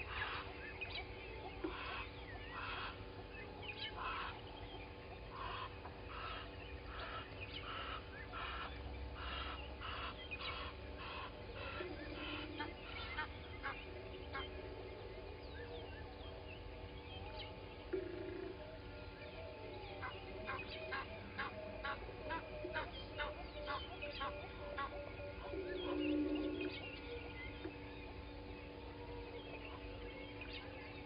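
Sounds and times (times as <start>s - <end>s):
bird honking calls: 0.0s - 31.0s
birds chirping and whistling: 0.0s - 31.0s.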